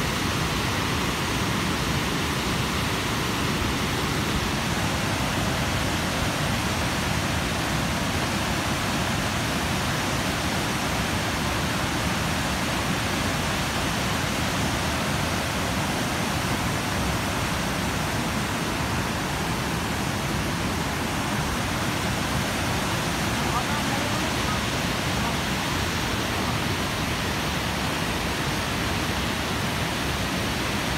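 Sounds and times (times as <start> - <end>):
water pouring over dam spillway: 0.0 - 30.9.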